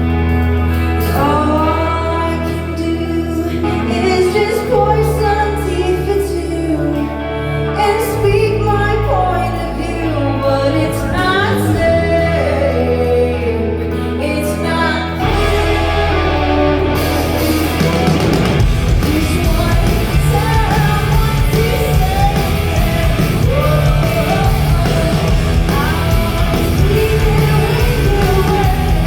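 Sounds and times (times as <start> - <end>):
held bass notes: 0.0 - 29.0
live band music: 0.0 - 29.0
woman singing: 1.0 - 16.8, 17.4 - 29.0.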